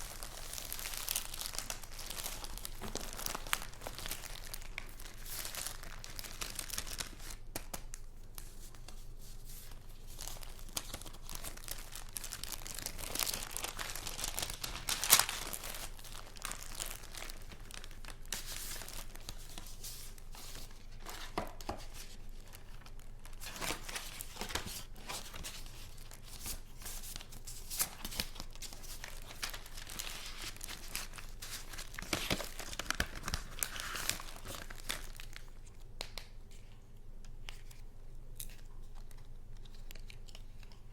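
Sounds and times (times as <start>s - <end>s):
paper rustling and crinkling: 0.0s - 36.8s.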